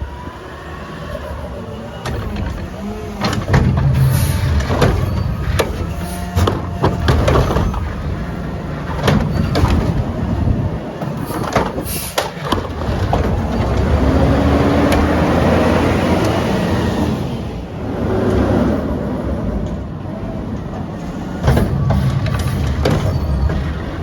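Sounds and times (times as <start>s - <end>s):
garbage truck working: 0.0s - 24.0s.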